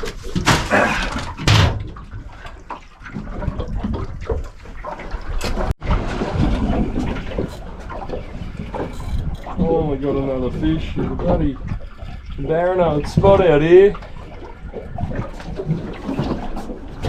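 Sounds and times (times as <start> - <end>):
water sloshing and splashing: 0.0 - 17.0.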